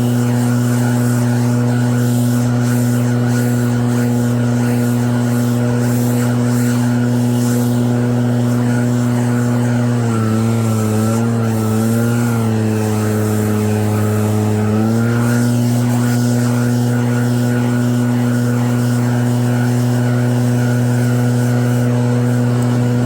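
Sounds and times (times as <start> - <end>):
snow blower engine running: 0.0 - 23.0.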